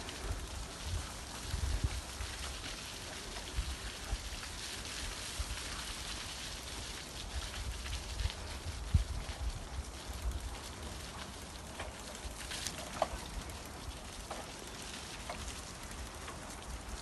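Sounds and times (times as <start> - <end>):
rain on foliage: 0.0 - 17.0
water dripping: 0.0 - 17.0.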